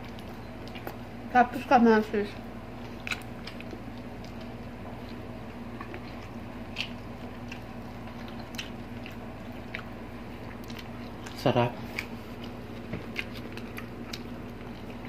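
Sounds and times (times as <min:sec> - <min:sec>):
person chewing: 0:00.0 - 0:01.2, 0:02.5 - 0:15.0
steady low hum: 0:00.0 - 0:15.0.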